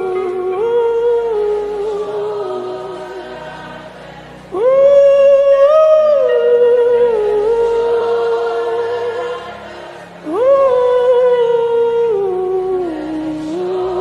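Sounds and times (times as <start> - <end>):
soft low musical backing: 0.0 - 14.0.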